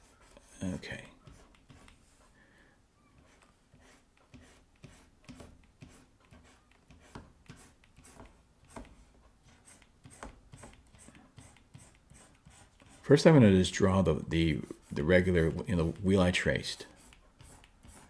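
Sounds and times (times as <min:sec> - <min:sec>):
stylus scratching on drawing tablet: 0:00.0 - 0:02.4, 0:03.0 - 0:18.0.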